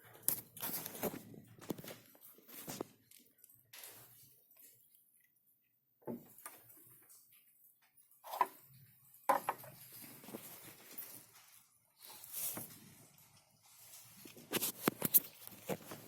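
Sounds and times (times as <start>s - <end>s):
soft rustling and scraping: 0.0s - 5.2s, 6.2s - 16.0s.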